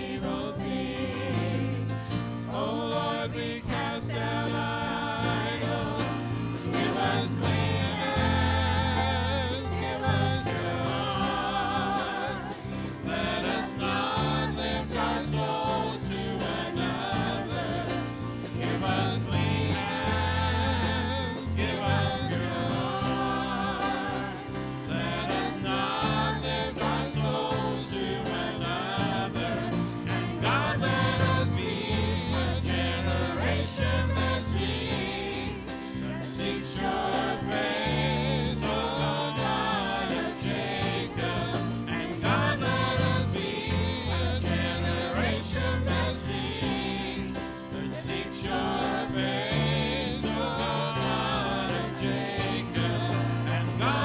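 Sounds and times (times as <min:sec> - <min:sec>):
instrumental accompaniment: 0:00.0 - 0:54.0
people singing with vibrato: 0:00.0 - 0:54.0.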